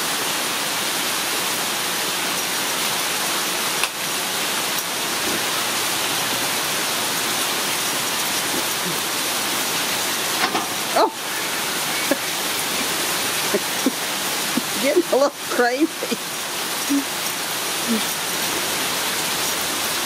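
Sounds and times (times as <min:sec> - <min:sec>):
heavy rain hissing: 0:00.0 - 0:20.0.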